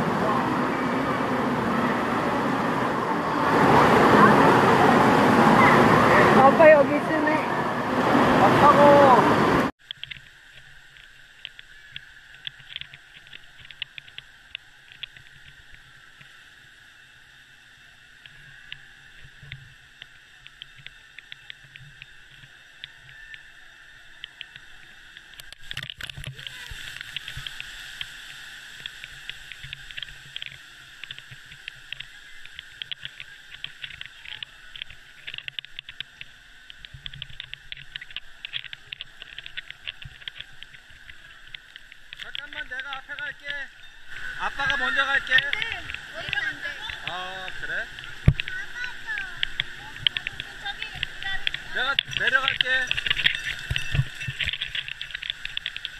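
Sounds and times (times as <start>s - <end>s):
water spraying and splashing: 0.0s - 55.9s
small irregular ticks: 9.8s - 55.9s.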